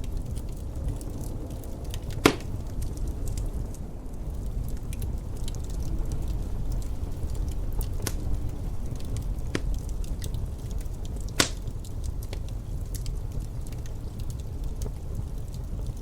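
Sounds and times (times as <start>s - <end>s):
low rumble of wind: 0.0s - 16.0s
wood fire crackling: 0.0s - 16.0s.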